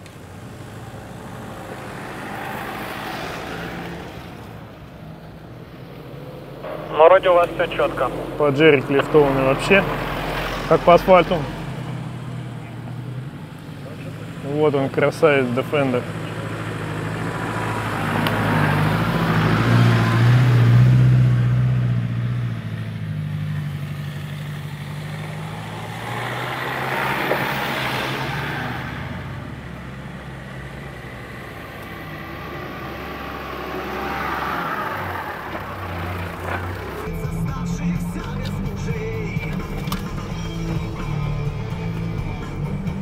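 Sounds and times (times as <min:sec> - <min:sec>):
off-road vehicle engine running: 0:00.0 - 0:43.0.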